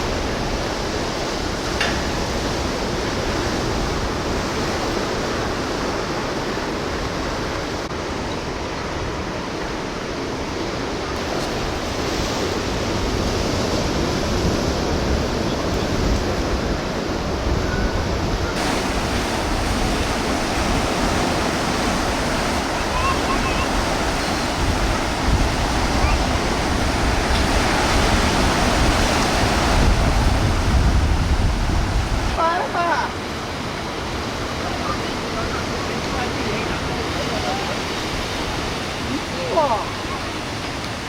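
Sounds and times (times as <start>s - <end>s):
ocean surf washing onto shore: 0.0s - 41.0s.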